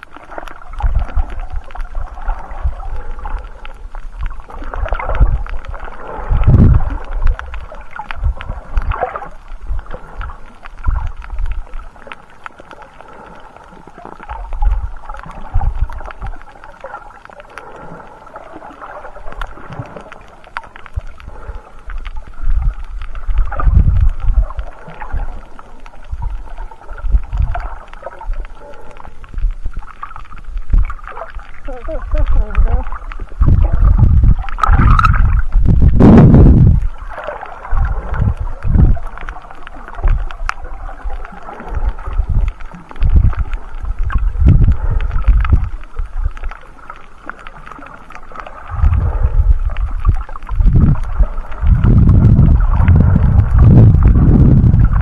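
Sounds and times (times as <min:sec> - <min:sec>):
muffled underwater noise: 0:00.0 - 0:55.0
underwater surges and thuds: 0:00.0 - 0:55.0.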